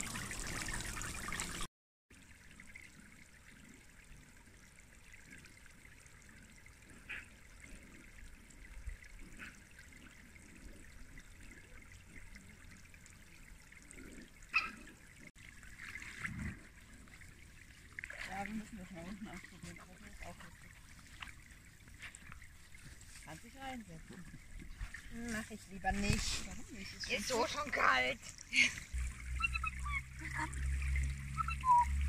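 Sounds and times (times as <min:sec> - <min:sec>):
water jets spraying and trickling: 0:00.0 - 0:32.0.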